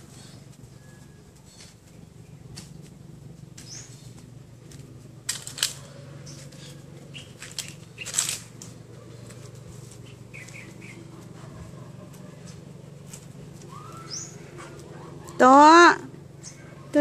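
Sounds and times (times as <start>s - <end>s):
crunching and rustling: 0.0s - 15.1s
steady low hum: 0.0s - 17.0s.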